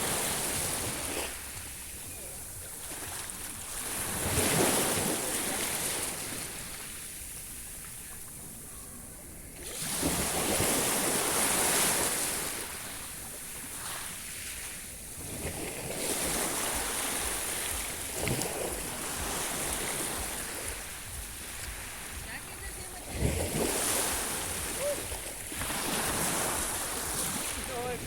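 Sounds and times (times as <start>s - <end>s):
sea waves washing onto shore: 0.0s - 28.0s.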